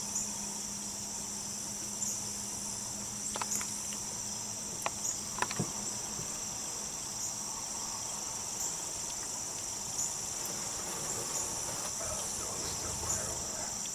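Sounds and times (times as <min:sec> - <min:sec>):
insect chorus drone: 0:00.0 - 0:13.9.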